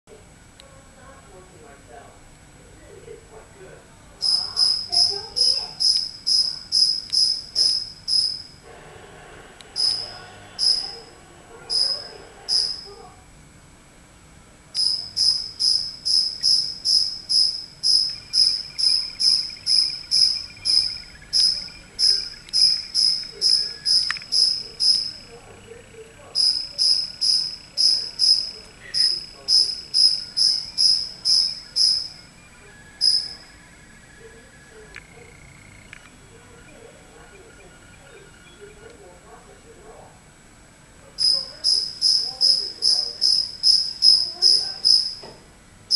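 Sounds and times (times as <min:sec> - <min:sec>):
cricket chirping: 0:04.2 - 0:08.6, 0:09.8 - 0:13.2, 0:14.7 - 0:39.0, 0:41.2 - 0:45.9.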